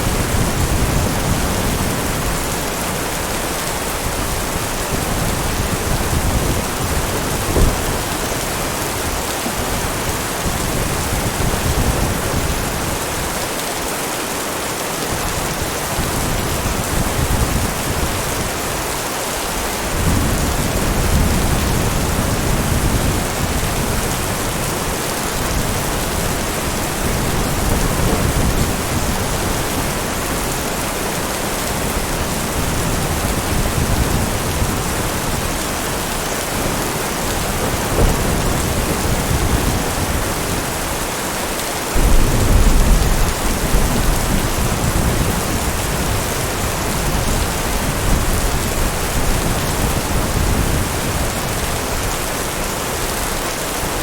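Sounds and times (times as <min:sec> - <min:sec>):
thunder rumbling: 0:00.0 - 0:13.0, 0:19.9 - 0:41.0, 0:42.0 - 0:52.1
heavy rain: 0:00.0 - 0:54.0.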